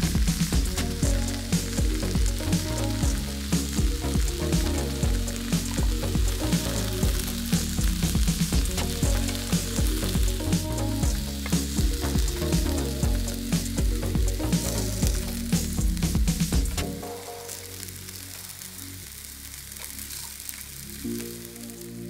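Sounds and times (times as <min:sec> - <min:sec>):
vegetables sizzling on a grill: 0:00.0 - 0:22.0.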